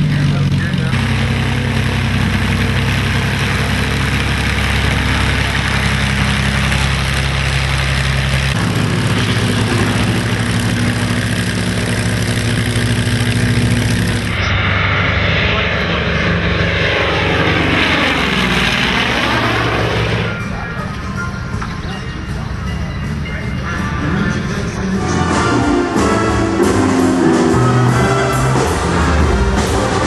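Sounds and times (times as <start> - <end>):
piston aircraft engine running: 0.0 - 30.0.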